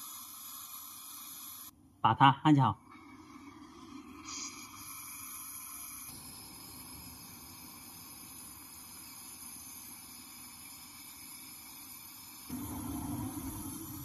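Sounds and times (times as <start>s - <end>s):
torch flame hissing: 0.0s - 1.7s, 3.2s - 14.0s.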